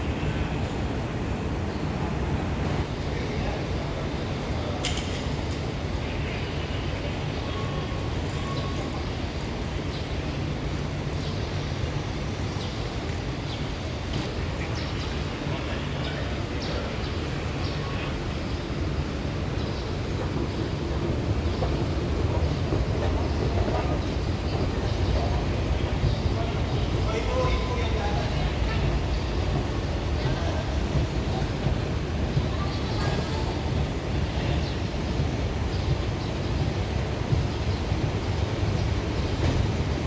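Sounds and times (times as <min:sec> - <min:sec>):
train rumble and rush: 0:00.0 - 0:40.0.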